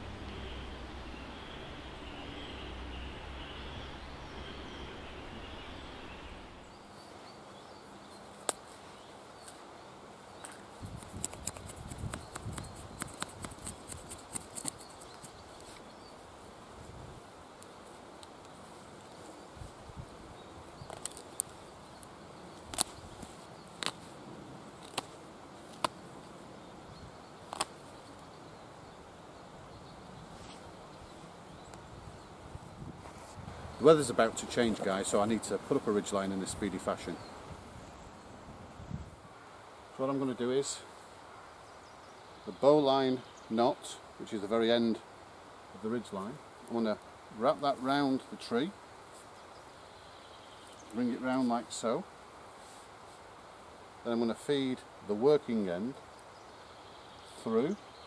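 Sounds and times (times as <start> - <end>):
forest background hiss: 0.0 - 58.0.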